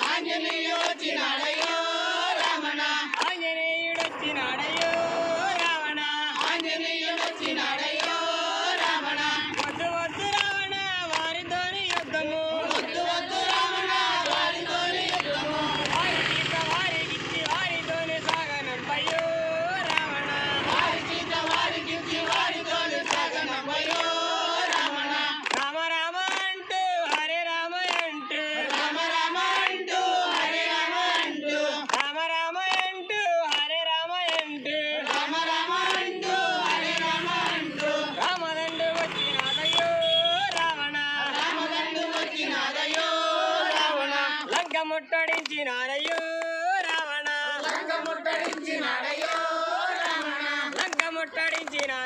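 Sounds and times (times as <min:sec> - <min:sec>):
group singing in unison: 0:00.0 - 0:52.0
hand claps: 0:00.0 - 0:52.0.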